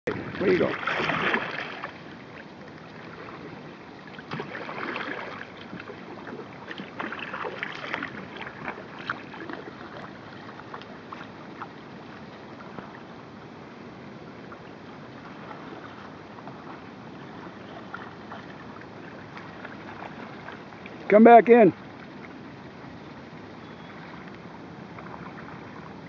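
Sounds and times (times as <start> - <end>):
moving water wash: 0.1 - 26.0
paddles splashing in water: 0.1 - 26.0.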